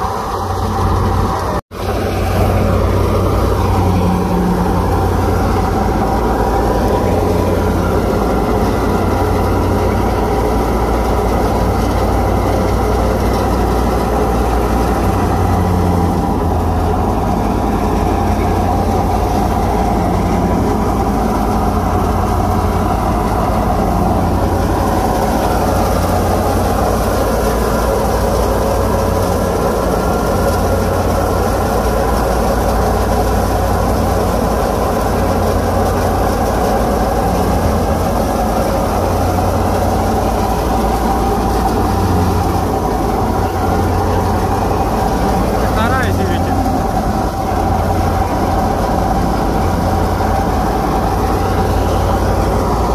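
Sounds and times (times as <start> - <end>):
low engine hum: 0.0 - 52.9
threshing machine running: 0.0 - 52.9.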